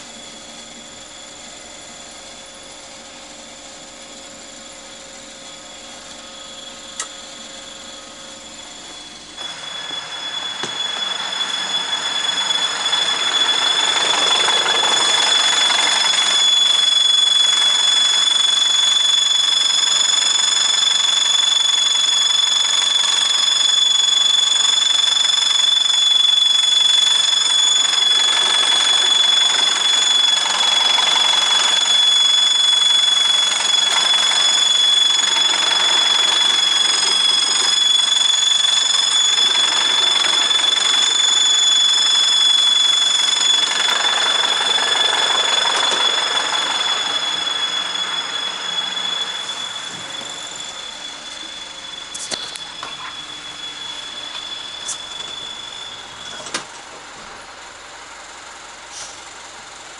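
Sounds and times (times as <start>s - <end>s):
exhaust brake whistle: 5.4s - 57.6s.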